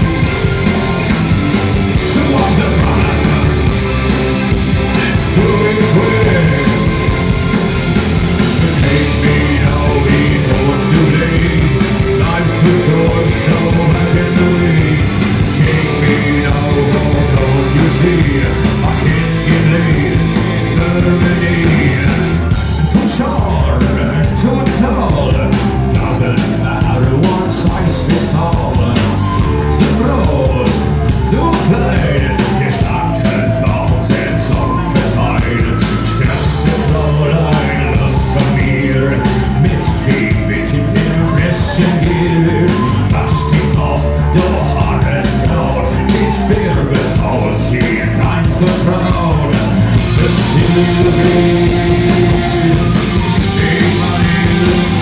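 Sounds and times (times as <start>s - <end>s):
live rock band playing: 0.0s - 55.0s
male lead singer: 0.0s - 55.0s.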